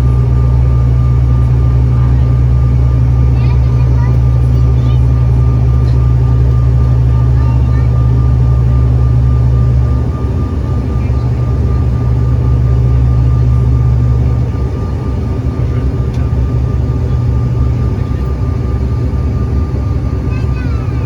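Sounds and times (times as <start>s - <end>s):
airliner engine drone: 0.0s - 21.0s
thin engine whine: 0.0s - 21.0s.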